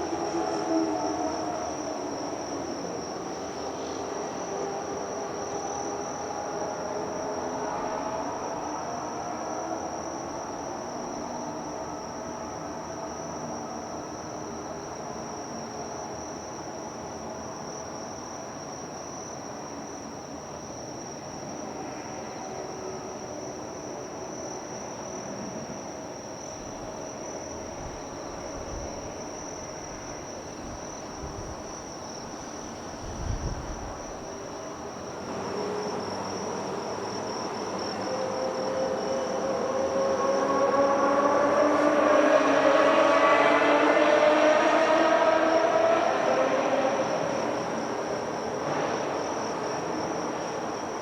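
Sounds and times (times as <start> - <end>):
insects trilling: 0.0 - 51.0.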